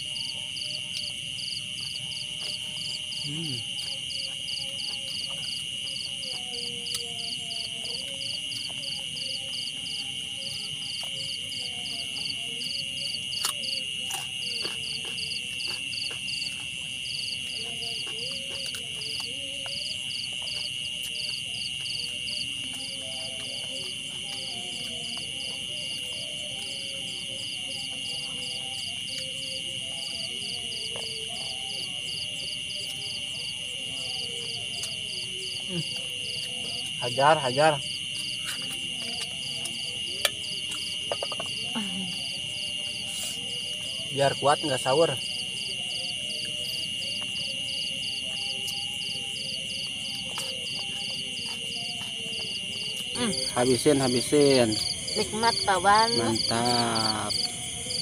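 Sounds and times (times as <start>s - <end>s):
cricket steady high trill: 0.0s - 58.0s
insect chirping in pulses: 0.0s - 58.0s.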